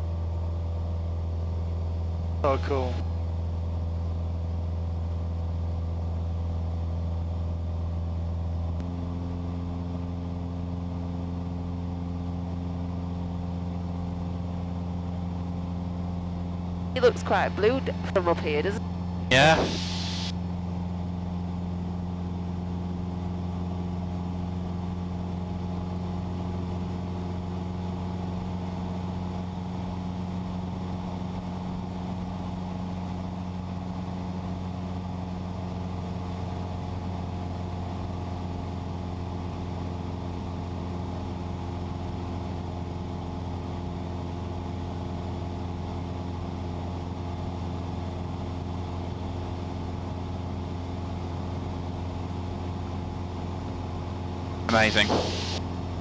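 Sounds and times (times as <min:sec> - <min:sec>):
airplane engine droning in cabin: 0:00.0 - 0:20.3, 0:21.0 - 0:56.0.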